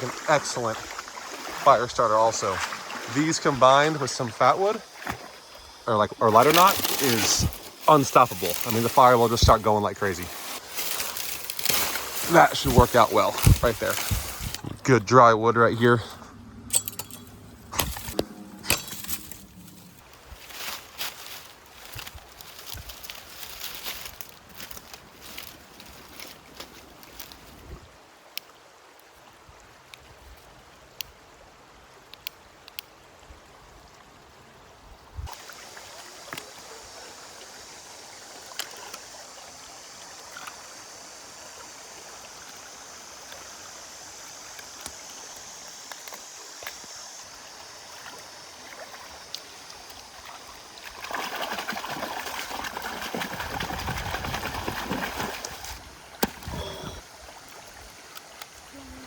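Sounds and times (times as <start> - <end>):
river water running: 0.0 - 59.0.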